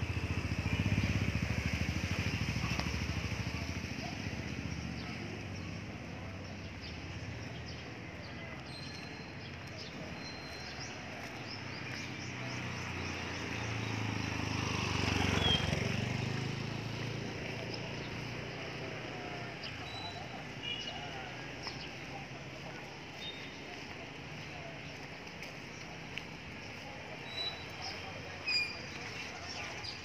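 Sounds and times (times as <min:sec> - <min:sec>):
motor vehicle passing: 0:00.0 - 0:08.1, 0:09.7 - 0:30.0
small birds chirping: 0:00.2 - 0:30.0.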